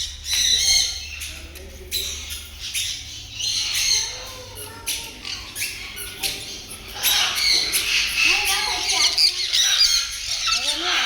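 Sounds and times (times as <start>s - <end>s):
caged birds squawking: 0.0s - 11.0s.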